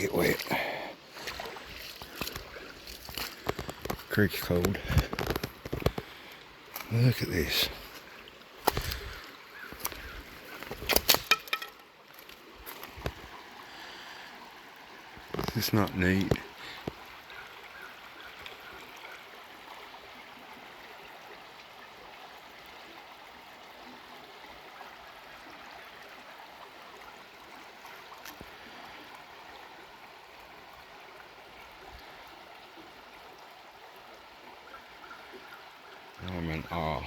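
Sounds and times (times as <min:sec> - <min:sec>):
creek flowing over rocks: 0:00.0 - 0:37.0.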